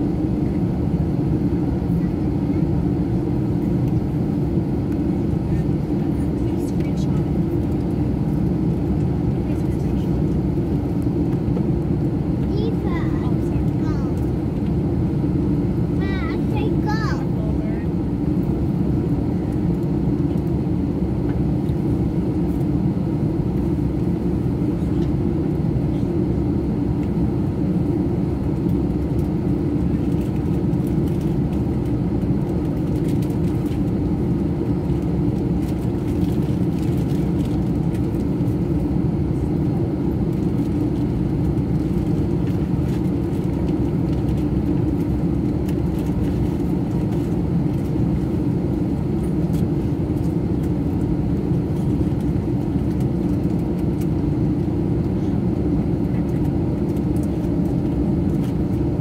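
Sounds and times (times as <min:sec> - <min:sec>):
jet engines idling in cabin: 0:00.0 - 0:59.0.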